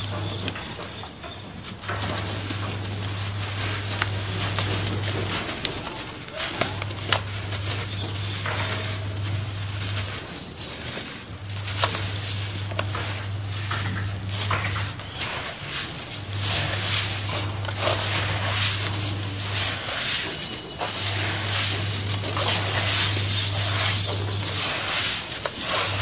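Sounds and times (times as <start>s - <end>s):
sand crumbling and sifting: 0.0s - 26.0s.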